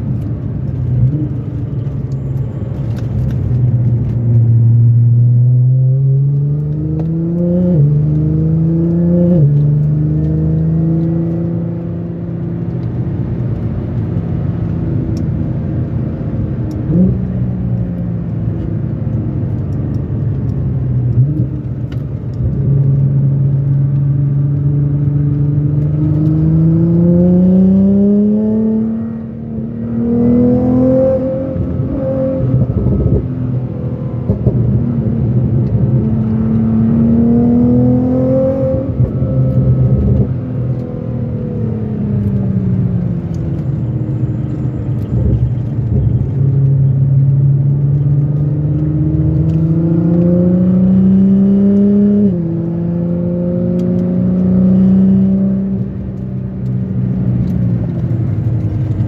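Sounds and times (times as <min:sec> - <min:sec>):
car engine revving in cabin: 0:00.0 - 0:59.0
tyre and road noise: 0:00.0 - 0:59.0.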